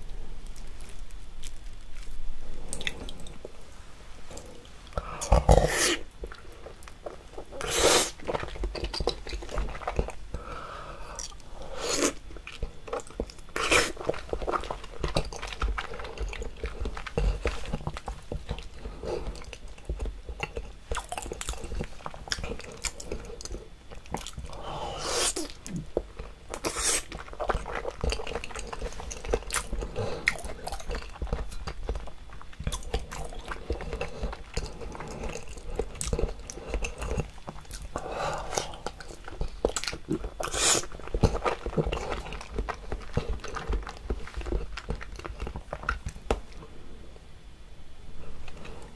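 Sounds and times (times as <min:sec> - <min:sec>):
chewing raw fish: 0:04.3 - 0:46.7.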